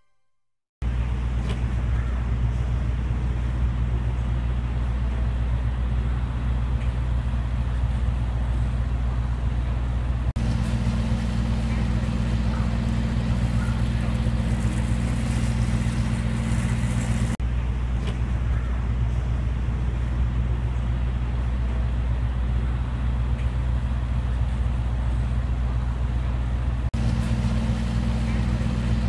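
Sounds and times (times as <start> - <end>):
diesel truck idling: 0.8 - 29.0.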